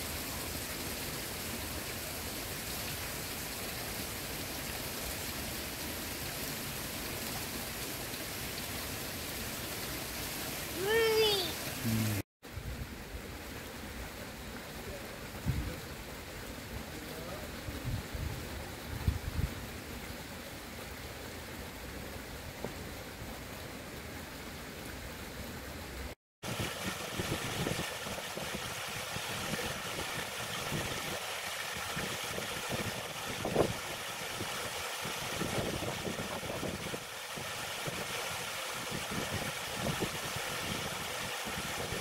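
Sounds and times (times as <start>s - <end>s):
fountain jets splashing into pond: 0.0s - 42.0s
waterfall cascading into pond: 0.0s - 42.0s.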